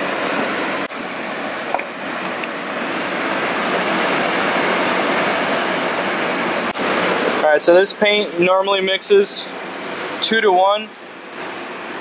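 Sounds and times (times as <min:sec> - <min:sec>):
fan rushing: 0:00.0 - 0:12.0.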